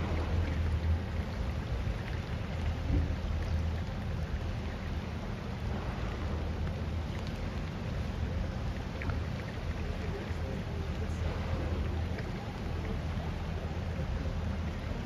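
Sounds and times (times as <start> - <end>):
boat engine rumbling: 0.0 - 15.0
rain hiss: 0.0 - 15.0
wind: 0.0 - 15.0.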